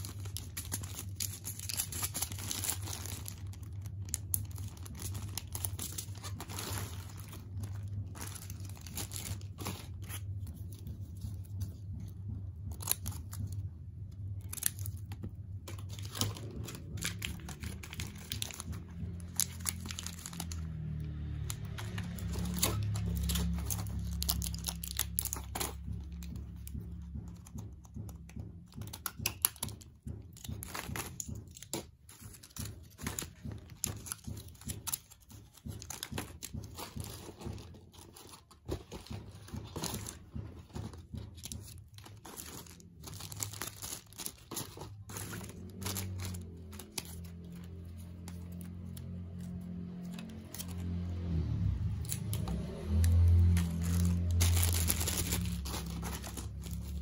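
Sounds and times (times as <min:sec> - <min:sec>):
blister packs crinkling: 0:00.0 - 0:11.6, 0:12.7 - 0:26.6, 0:30.5 - 0:50.9, 0:52.0 - 0:57.0
plastic bags crinkling: 0:00.0 - 0:12.0, 0:12.7 - 0:26.6, 0:30.5 - 0:50.9, 0:52.0 - 0:57.0
low steady hum: 0:00.0 - 0:57.0.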